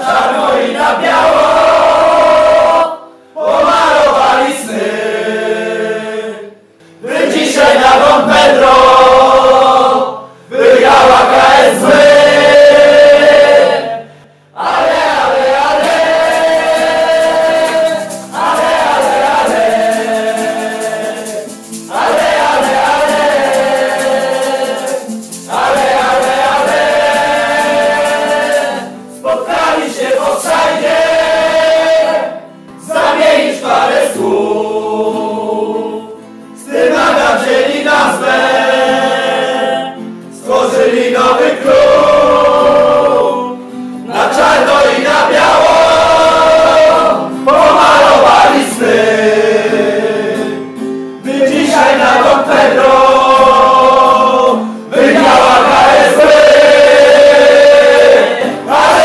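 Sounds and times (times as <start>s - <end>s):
group singing football anthem: 0.0s - 59.0s.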